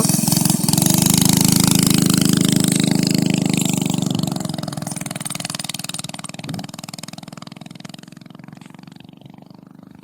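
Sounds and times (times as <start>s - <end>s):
small engine drone: 0.0s - 10.0s.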